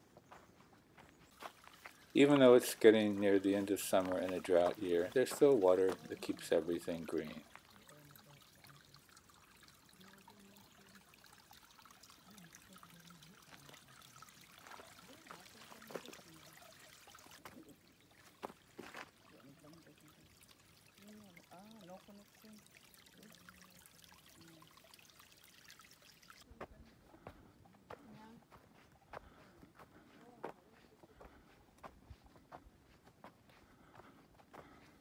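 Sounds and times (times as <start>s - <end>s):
small stream trickling: 0.0s - 35.0s.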